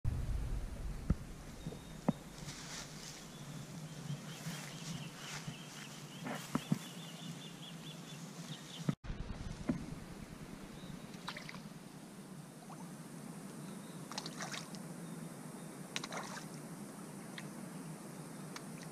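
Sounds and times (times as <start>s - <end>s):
low steady hum: 0.1s - 6.2s, 9.1s - 18.9s.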